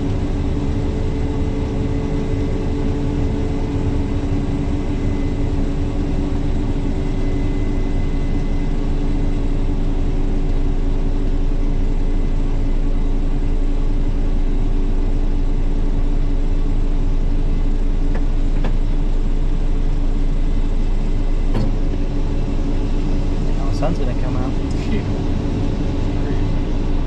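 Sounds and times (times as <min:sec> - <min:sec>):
heavy engine humming: 0:00.0 - 0:27.0.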